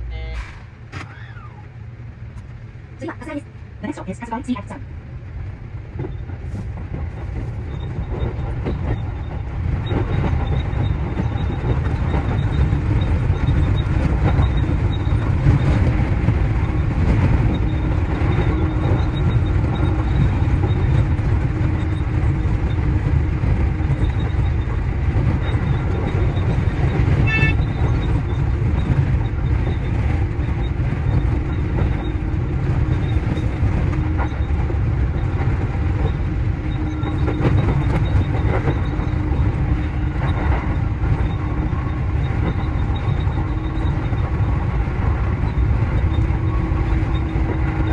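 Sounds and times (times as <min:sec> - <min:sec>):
electric train rumbling on rails: 0:00.0 - 0:47.9.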